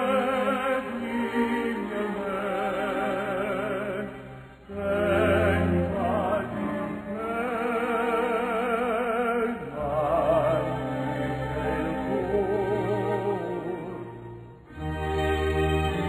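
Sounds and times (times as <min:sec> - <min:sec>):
operatic singing with vibrato: 0:00.0 - 0:16.0.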